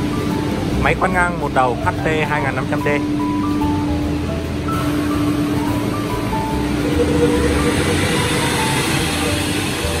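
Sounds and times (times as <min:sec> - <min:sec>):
melody of short notes: 0:00.0 - 0:10.0
steady drone: 0:00.0 - 0:10.0.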